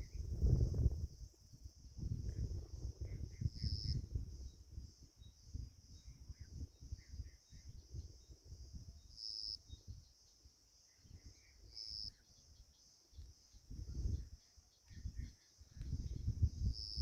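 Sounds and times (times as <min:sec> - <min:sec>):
insects trilling: 0:00.0 - 0:17.0
faint bird chirps: 0:02.3 - 0:17.0.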